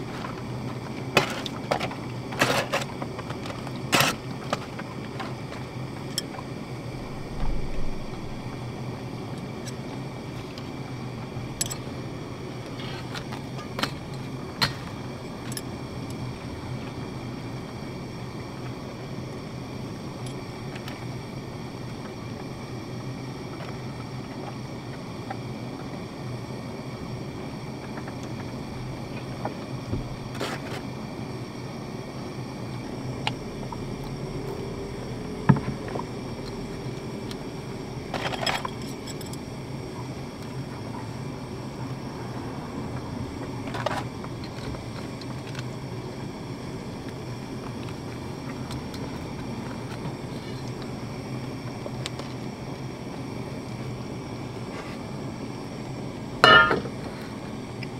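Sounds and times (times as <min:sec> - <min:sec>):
gas stove burning hum: 0:00.0 - 0:57.9.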